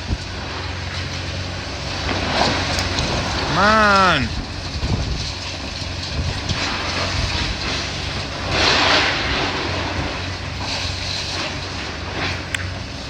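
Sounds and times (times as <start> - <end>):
diesel engine of demolition machinery: 0.0 - 3.5, 4.3 - 13.0.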